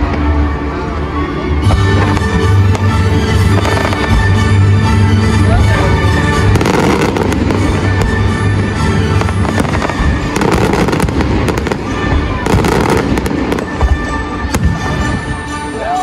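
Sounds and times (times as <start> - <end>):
fireworks bangs and crackling: 0.0 - 15.6
music playing: 0.0 - 16.0.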